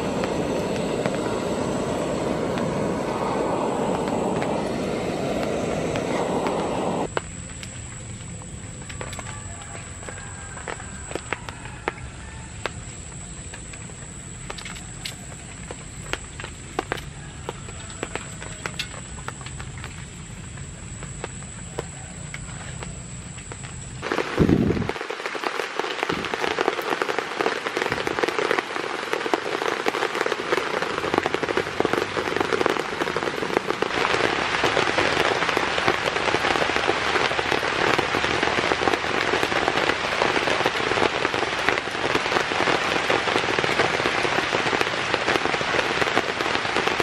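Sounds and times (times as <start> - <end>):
heavy rain on a shelter: 0.0 - 47.0.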